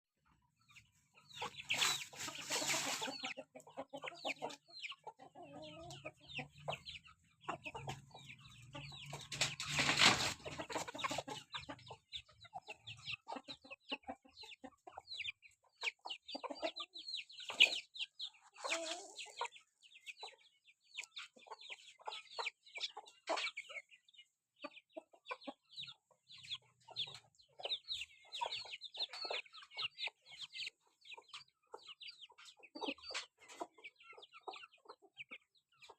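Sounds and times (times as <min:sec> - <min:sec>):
chickens clucking: 0:00.2 - 0:35.9.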